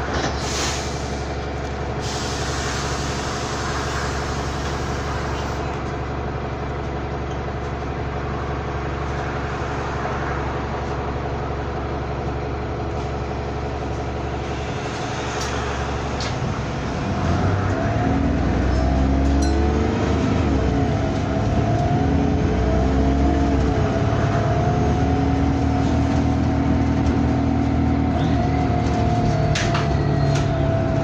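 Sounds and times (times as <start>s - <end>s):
bus engine drone: 0.0s - 31.0s.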